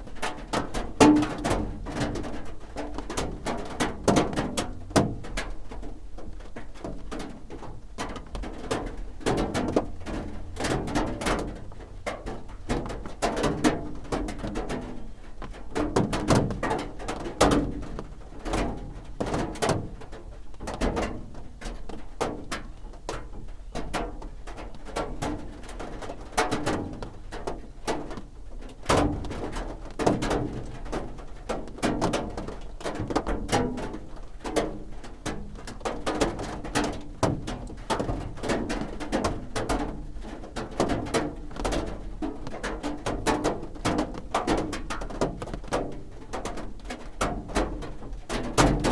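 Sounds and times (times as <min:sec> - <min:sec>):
raindrops drumming on a roof: 0:00.0 - 0:48.9.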